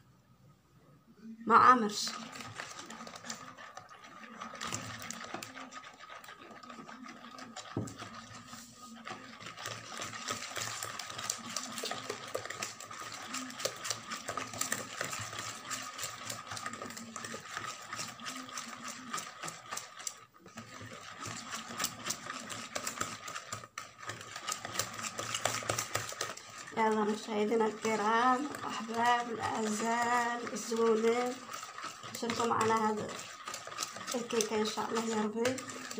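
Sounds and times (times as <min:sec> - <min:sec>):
whisk beating batter in a bowl: 0:01.5 - 0:35.9.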